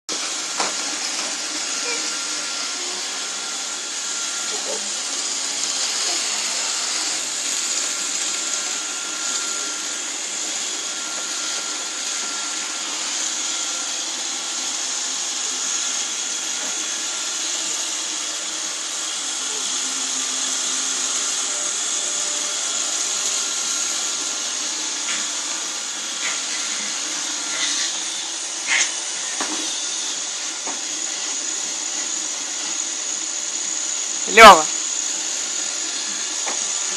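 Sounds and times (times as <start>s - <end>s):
robot vacuum cleaner whining: 0.1s - 36.9s.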